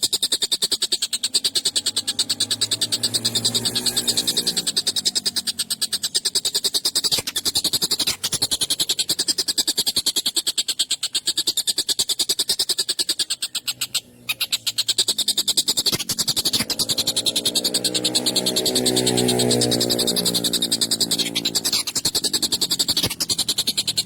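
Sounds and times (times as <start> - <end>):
kingfisher rattling chatter: 0.0 - 24.0.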